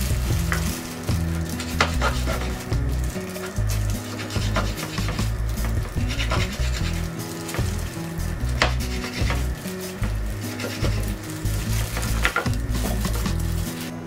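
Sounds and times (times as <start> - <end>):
background music with bass: 0.0 - 14.0
knife rasping through fat: 0.2 - 14.0.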